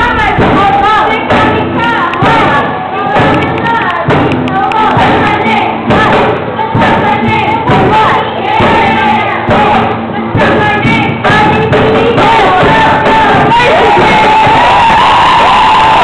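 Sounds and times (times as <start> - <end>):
group of people singing: 0.0 - 16.0.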